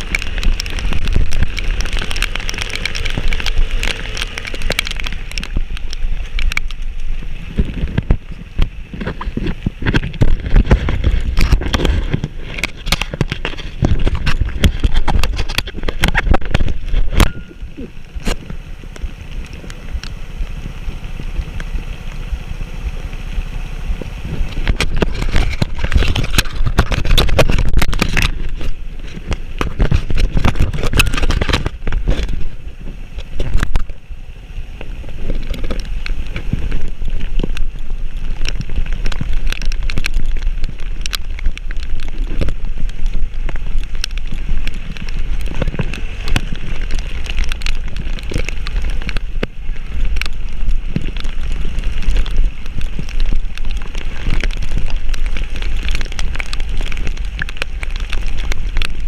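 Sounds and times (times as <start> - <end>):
heavy rain: 0.0 - 59.0
vehicle rumbling on rough track: 0.0 - 59.0.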